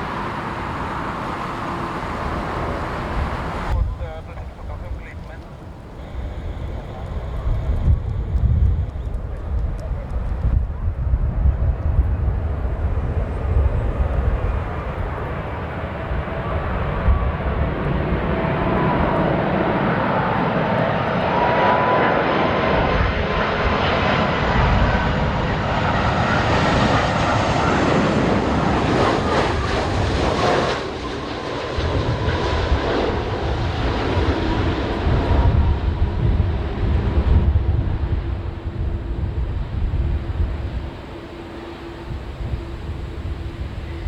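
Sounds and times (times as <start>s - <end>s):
jet engines roaring and whining: 0.0s - 44.0s
wind buffeting microphone: 0.0s - 44.0s.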